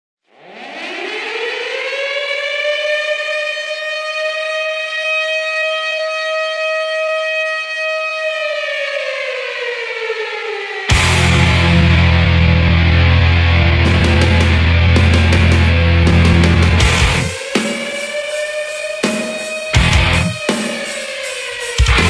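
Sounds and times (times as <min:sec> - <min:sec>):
air-raid siren howling: 0:00.3 - 0:22.0.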